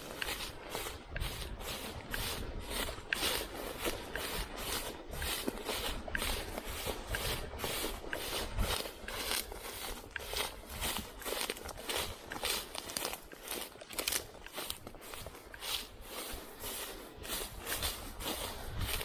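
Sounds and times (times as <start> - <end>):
clothing swishing through stalks: 0.0 - 19.0
footsteps through dry grass: 0.0 - 19.0.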